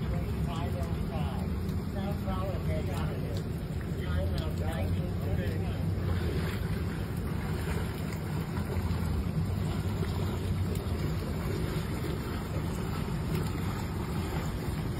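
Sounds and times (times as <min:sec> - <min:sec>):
heavy rain on water: 0:00.0 - 0:14.9.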